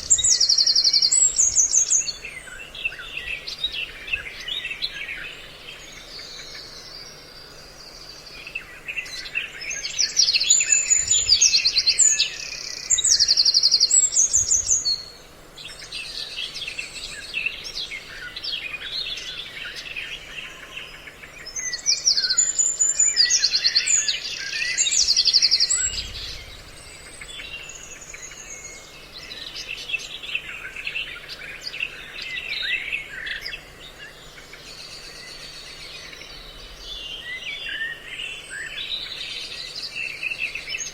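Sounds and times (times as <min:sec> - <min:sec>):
faint steady hum: 0:00.0 - 0:40.9
recorded songbird calls: 0:00.0 - 0:40.9.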